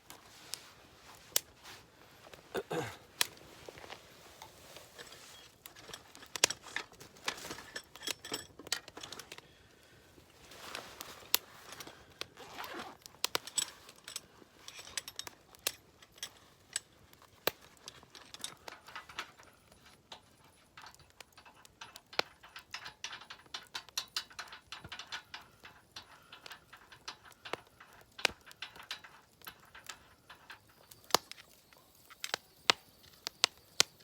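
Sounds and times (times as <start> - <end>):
gear clicking and clinking: 0.1 - 9.4, 10.4 - 34.0.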